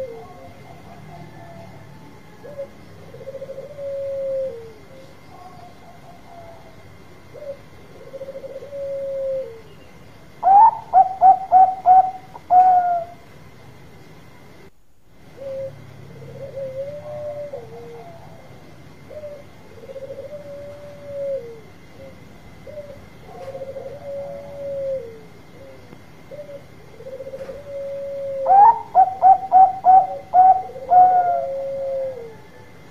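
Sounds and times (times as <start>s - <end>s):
dove cooing: 0.0s - 13.2s, 15.3s - 32.9s.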